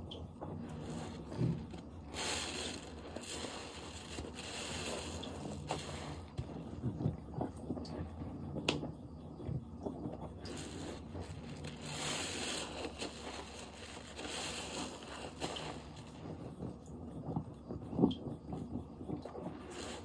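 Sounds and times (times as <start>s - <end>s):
dish soap wet crackles: 0.0s - 20.0s.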